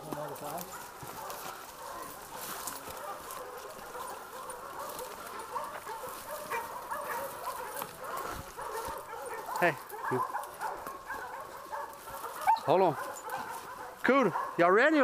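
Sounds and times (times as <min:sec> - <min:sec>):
brush crackling and snapping: 0:00.0 - 0:14.1
dogs barking and baying: 0:00.0 - 0:15.0.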